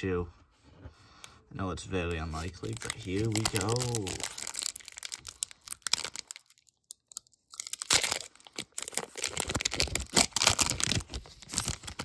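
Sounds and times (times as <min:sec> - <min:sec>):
foil wrapper tearing and crinkling: 0:02.2 - 0:12.0.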